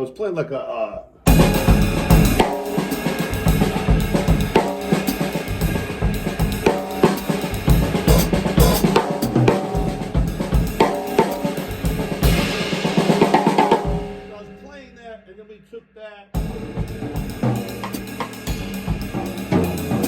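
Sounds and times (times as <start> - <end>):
drum kit playing a groove: 1.3 - 14.9, 16.4 - 20.0.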